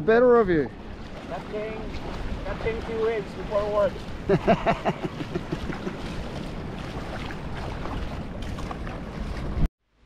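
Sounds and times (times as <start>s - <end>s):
wind buffeting microphone: 0.7s - 9.7s
feet wading splashes: 0.8s - 9.7s
shallow sea water washing: 0.8s - 9.7s.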